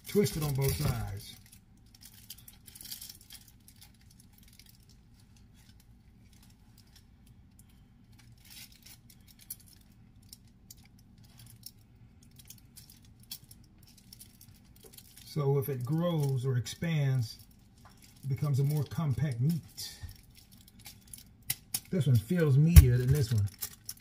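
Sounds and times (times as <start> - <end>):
aluminium foil crinkling: 0.0 - 24.0
steady low hum: 0.0 - 24.0.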